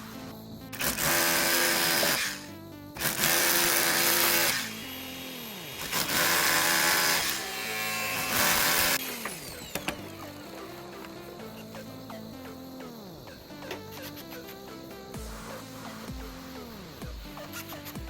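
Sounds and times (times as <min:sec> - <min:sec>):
background music: 0:00.0 - 0:18.0
electric drill bursts: 0:00.0 - 0:18.0.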